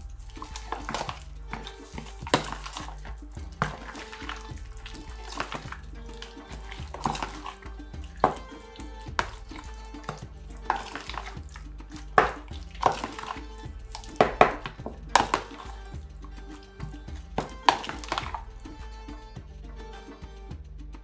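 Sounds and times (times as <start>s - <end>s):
fork scraping plastic tub: 0.0s - 19.0s
background music: 0.0s - 21.0s.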